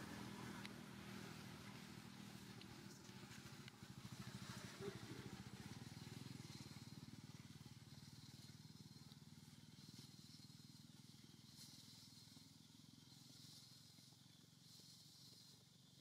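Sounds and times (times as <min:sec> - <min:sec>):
faint engine hum: 0:00.0 - 0:16.0.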